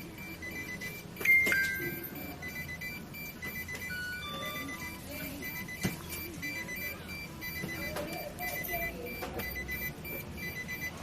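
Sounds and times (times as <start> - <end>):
rapid electronic beeping: 0.0 - 1.2, 1.8 - 11.0.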